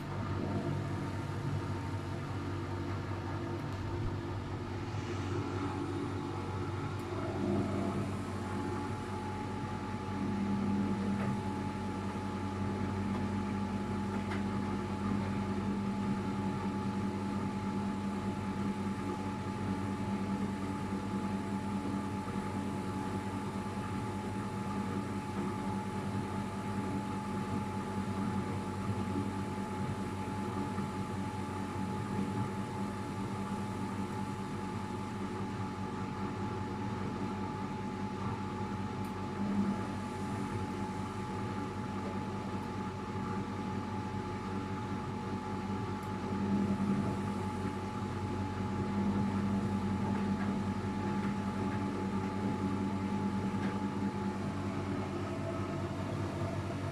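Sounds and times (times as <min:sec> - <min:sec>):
washing machine motor hum: 0:00.0 - 0:56.9.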